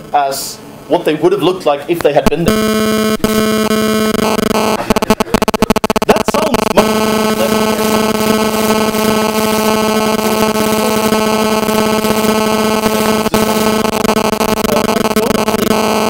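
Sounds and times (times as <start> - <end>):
loud electronic buzz: 0.0 - 1.0, 2.0 - 16.0.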